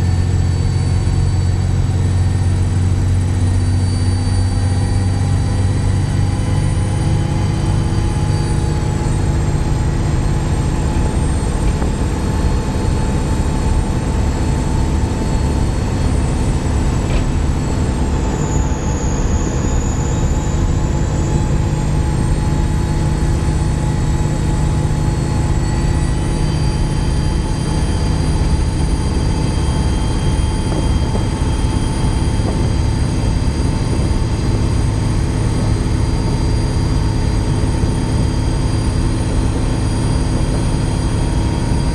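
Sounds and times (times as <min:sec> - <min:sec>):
bus engine drone: 0:00.0 - 0:41.9
turbocharger whistle: 0:00.0 - 0:41.9.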